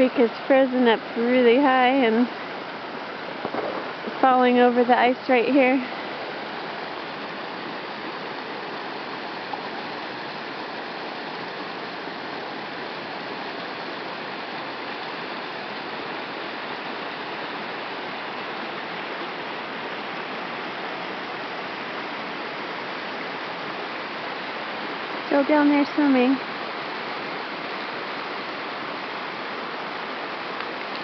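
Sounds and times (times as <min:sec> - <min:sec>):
creek water flowing over ice: 0:00.0 - 0:31.0.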